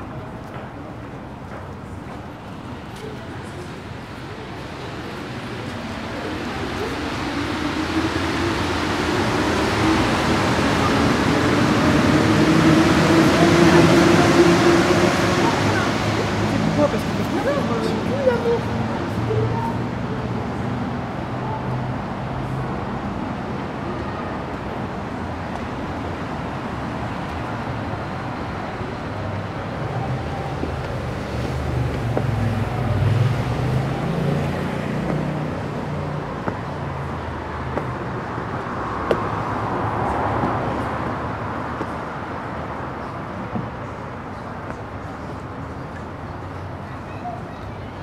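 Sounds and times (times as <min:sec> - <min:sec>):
road traffic: 0:00.0 - 0:48.0.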